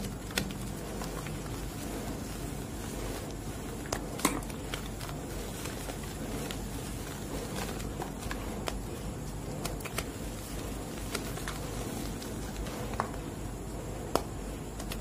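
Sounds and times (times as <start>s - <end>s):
chalk chunks cracking: 0.0s - 13.2s
chalk crunching and rustling: 0.0s - 13.4s.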